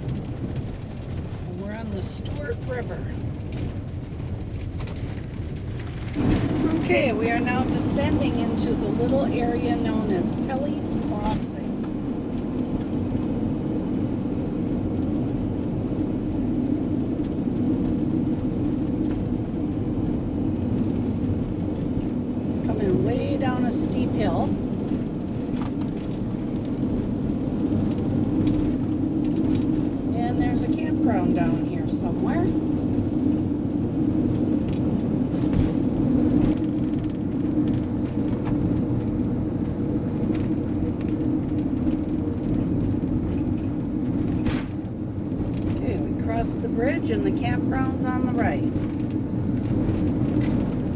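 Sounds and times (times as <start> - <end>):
road and drivetrain rumble: 0.0 - 50.9.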